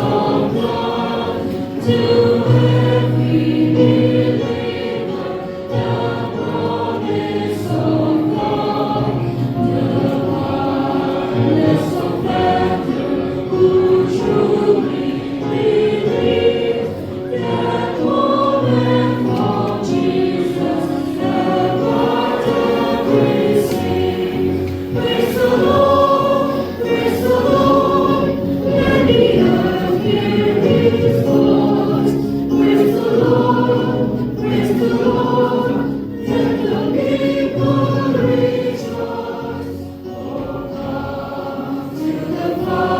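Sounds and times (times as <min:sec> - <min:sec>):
choir singing: 0:00.0 - 0:42.9.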